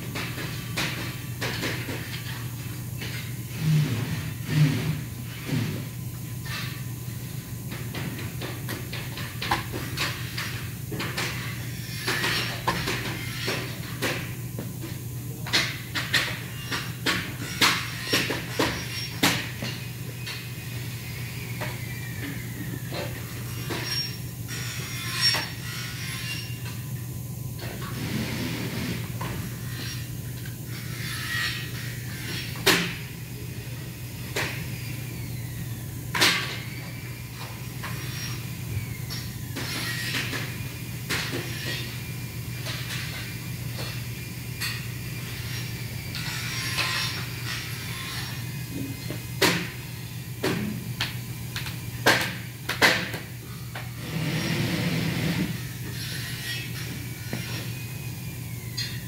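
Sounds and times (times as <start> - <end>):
low hum of workshop machinery: 0.0 - 59.0.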